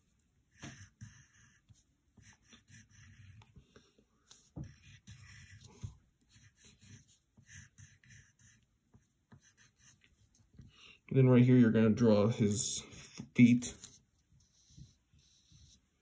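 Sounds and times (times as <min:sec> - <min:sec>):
pencil scratching on paper: 0:00.5 - 0:10.1, 0:12.4 - 0:16.0.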